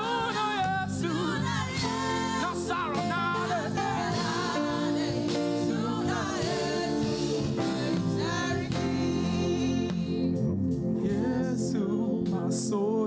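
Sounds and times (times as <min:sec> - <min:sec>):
band accompaniment: 0:00.0 - 0:10.9
singers singing gospel song: 0:00.0 - 0:13.0.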